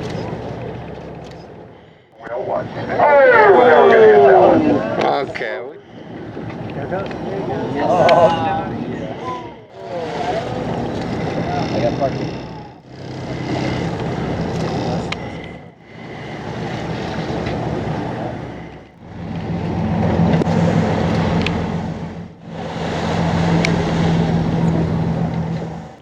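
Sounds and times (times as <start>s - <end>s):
boat engine humming: 0.0s - 26.0s
water noise: 0.0s - 26.0s
wind: 0.0s - 26.0s.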